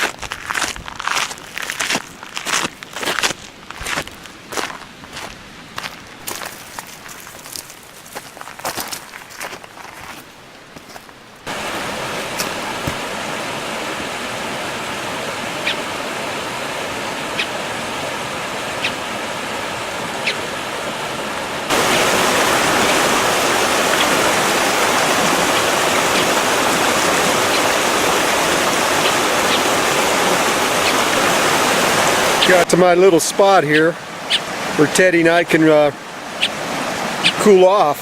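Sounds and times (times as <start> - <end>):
stream water rushing: 1.2 - 38.0.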